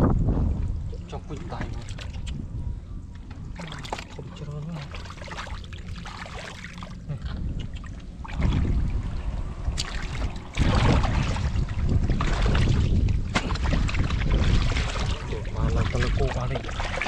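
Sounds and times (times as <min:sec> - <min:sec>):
muddy water sloshing: 0:01.0 - 0:17.0.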